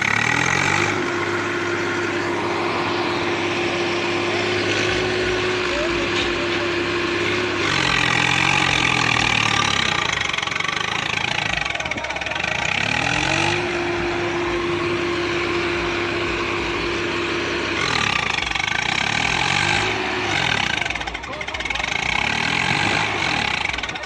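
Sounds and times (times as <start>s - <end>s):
tractor diesel engine revving: 0.0s - 24.0s.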